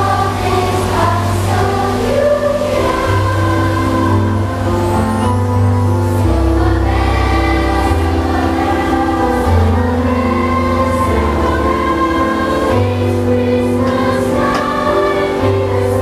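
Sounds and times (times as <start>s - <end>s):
children's choir singing: 0.0s - 16.0s
instrumental accompaniment: 0.0s - 16.0s.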